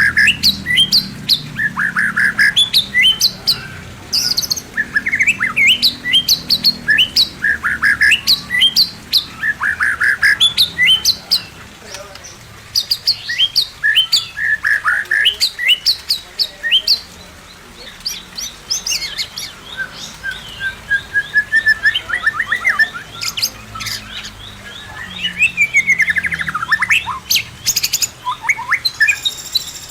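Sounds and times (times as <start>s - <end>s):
bird singing whistled song: 0.0s - 11.5s, 12.8s - 17.1s, 18.0s - 29.9s.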